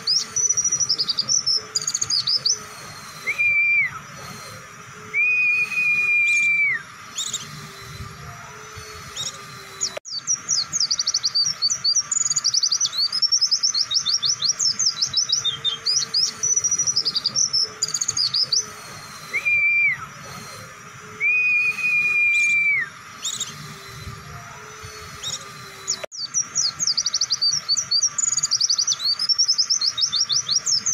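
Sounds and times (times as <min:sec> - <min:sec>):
bird singing rapid chirps: 0:00.0 - 0:30.9
long flat whistled notes: 0:00.0 - 0:30.9.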